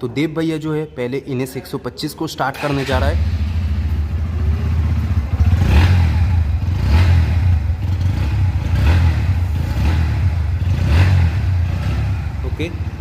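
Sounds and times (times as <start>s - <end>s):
motorcycle engine revving: 2.6s - 13.0s.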